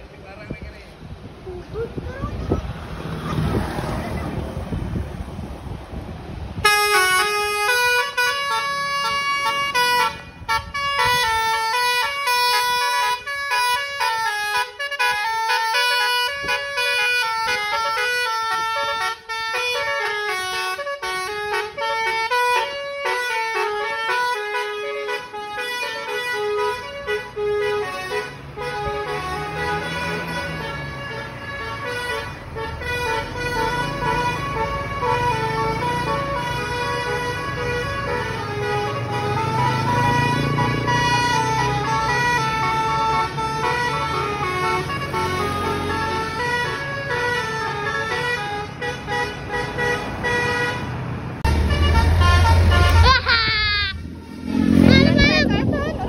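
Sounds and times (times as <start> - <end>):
bus engine rumble: 0.0 - 56.0
musical horn playing a tune: 6.6 - 56.0.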